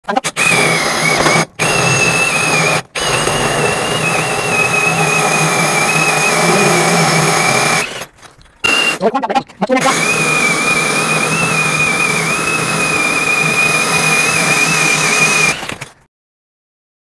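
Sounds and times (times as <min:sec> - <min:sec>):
drill grinding through masonry: 0:00.2 - 0:09.1, 0:09.8 - 0:16.0.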